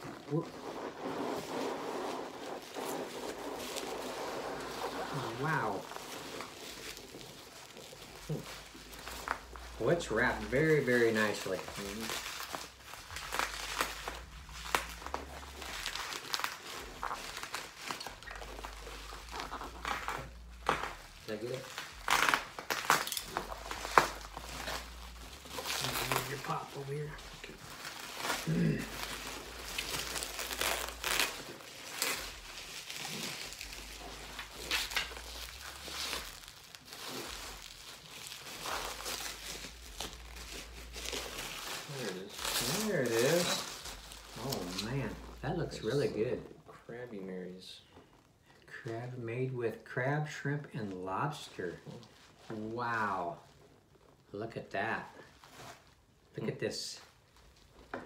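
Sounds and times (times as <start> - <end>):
bubble wrap crinkling: 0.0 - 58.0.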